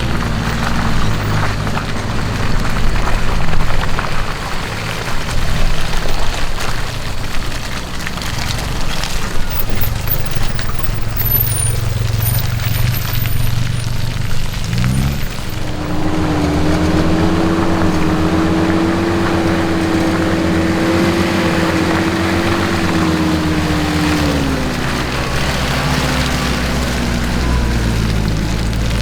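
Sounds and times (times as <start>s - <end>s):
engine running at low speed: 0.0s - 29.0s
knocks and crackles over rough ground: 0.0s - 29.0s.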